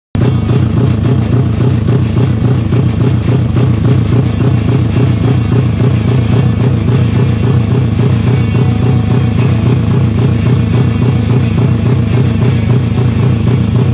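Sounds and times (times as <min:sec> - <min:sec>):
motorcycle engine idling: 0:00.2 - 0:13.9.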